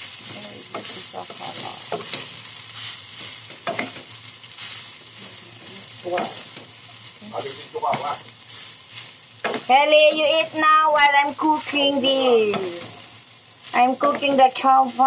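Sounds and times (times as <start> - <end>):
frying sizzle: 0.0 - 15.0
spatula scraping wok: 0.0 - 15.0.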